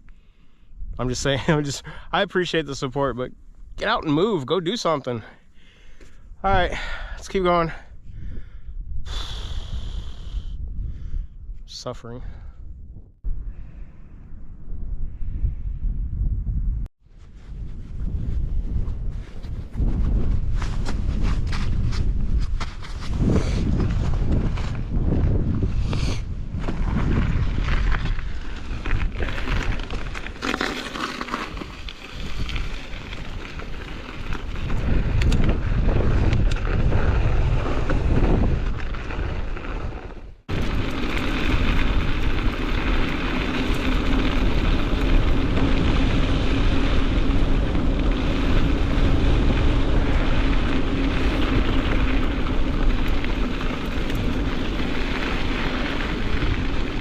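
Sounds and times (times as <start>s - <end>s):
wind buffeting microphone: 7.8s - 30.4s, 31.5s - 57.0s.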